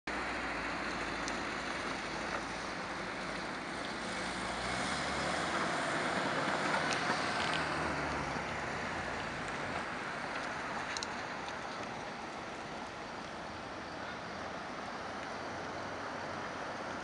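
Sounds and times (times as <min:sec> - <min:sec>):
hum of city traffic: 0:00.0 - 0:17.0
vehicles crossing railway crossing: 0:00.1 - 0:17.0.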